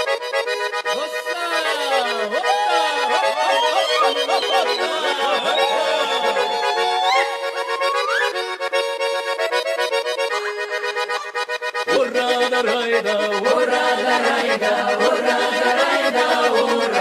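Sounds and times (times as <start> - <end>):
accordion music: 0.0 - 17.0.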